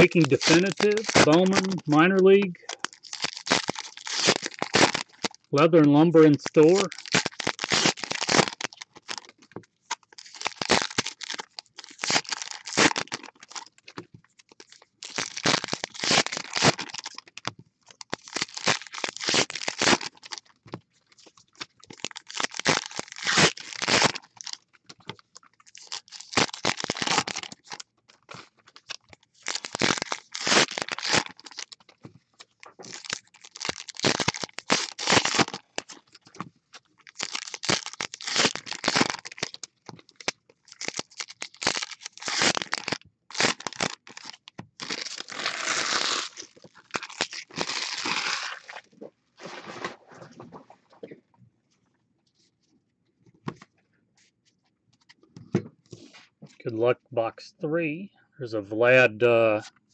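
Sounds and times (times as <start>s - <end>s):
plastic foil wrappers tearing: 0.0s - 20.5s, 21.1s - 50.7s.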